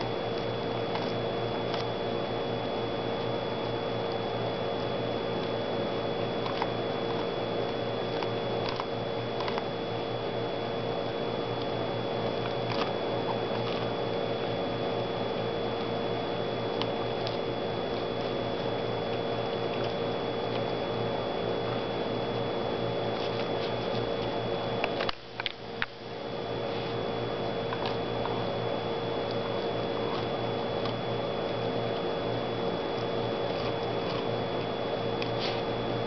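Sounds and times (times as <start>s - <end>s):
dog chewing corn cob: 0.0s - 36.0s
steady background hum: 0.0s - 36.0s.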